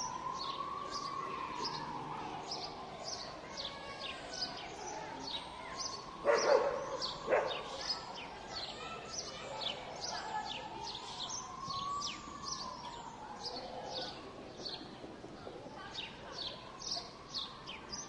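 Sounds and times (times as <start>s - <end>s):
city park background noise: 0.0s - 18.0s
small birds chirping: 0.0s - 18.0s.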